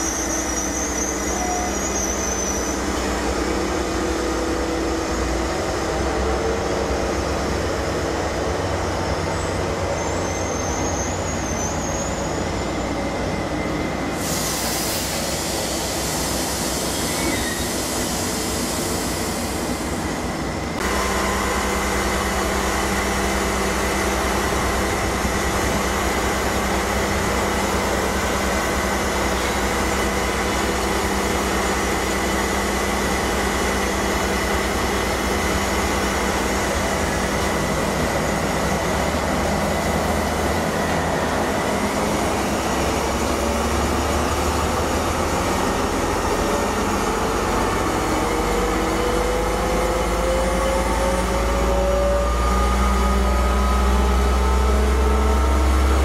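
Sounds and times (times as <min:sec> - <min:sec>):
diesel locomotive engine whining: 0:00.0 - 0:56.0
freight train rumbling past: 0:00.0 - 0:56.0.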